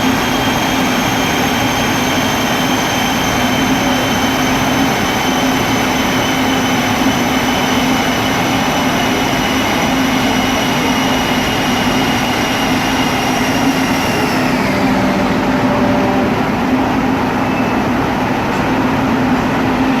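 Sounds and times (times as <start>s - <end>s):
high mechanical whine: 0.0s - 20.0s.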